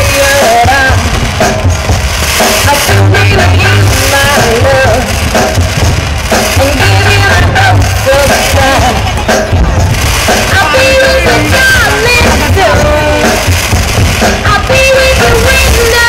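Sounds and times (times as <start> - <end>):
heavy bass line: 0.0 - 16.0
pop music with singing: 0.0 - 16.0.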